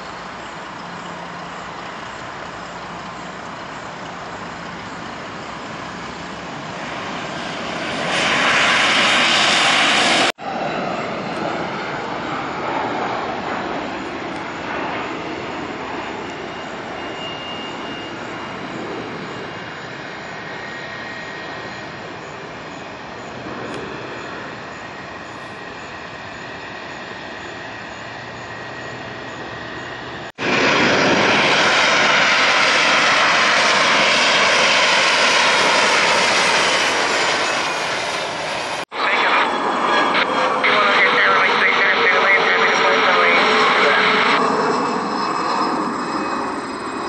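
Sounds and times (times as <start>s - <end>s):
jet engines taxiing: 0.0s - 47.0s
jet speeding along runway: 0.0s - 47.0s.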